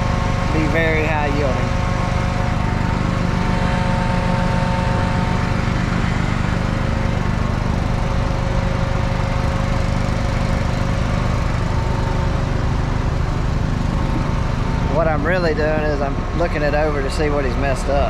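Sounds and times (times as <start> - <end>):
faint steady whine: 0.0 - 18.0
tractor engine running: 0.0 - 18.0.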